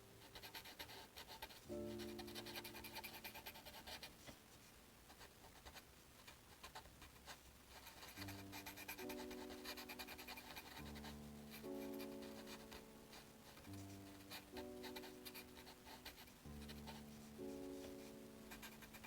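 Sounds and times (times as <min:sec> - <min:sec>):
soft background music: 0:00.0 - 0:19.0
pen scratching on paper: 0:00.2 - 0:04.4, 0:05.1 - 0:19.0.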